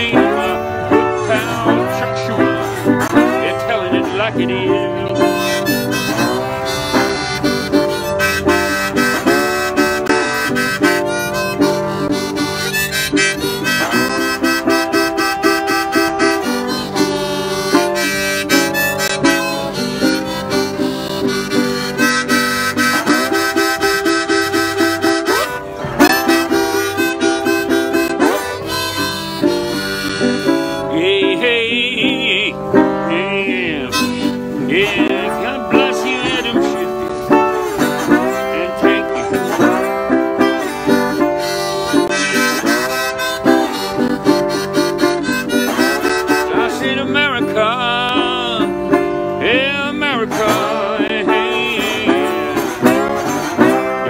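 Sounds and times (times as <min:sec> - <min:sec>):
harmonica: 0:00.0 - 0:54.0
slide resonator guitar: 0:00.0 - 0:54.0.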